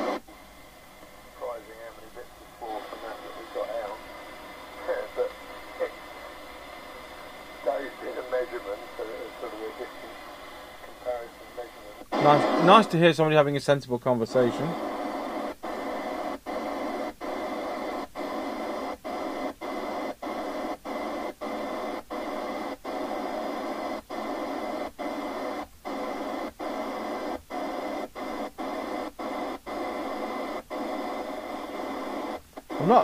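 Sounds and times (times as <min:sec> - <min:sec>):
radio static cutting out: 0:00.0 - 0:33.0.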